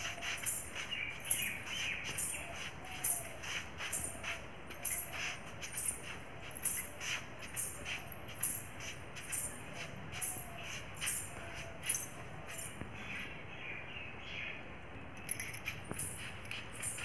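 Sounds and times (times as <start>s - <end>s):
ankle bells jingling: 0.0s - 12.8s, 15.2s - 17.0s.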